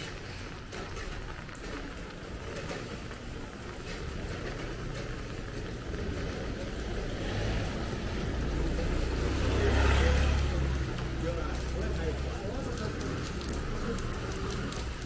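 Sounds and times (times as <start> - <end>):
rain hissing: 0.0 - 15.0
street traffic rumble: 0.0 - 15.0
vehicle approaching: 0.9 - 15.0.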